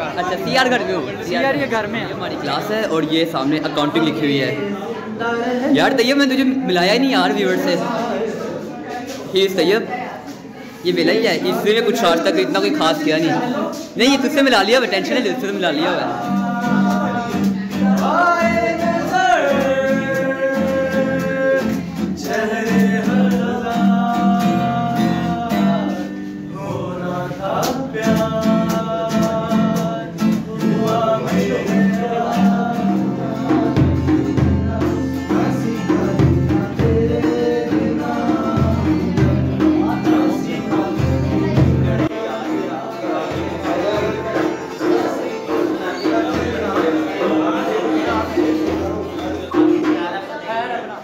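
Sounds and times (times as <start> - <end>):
strummed acoustic guitar: 0.0 - 50.8
young man singing: 0.0 - 51.0.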